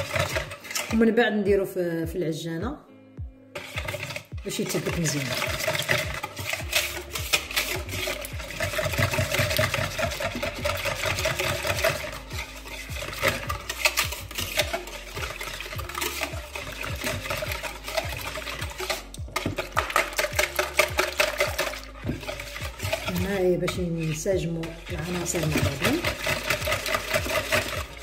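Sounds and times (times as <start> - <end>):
wire whisk beating batter: 0.0 - 1.2, 3.6 - 28.0.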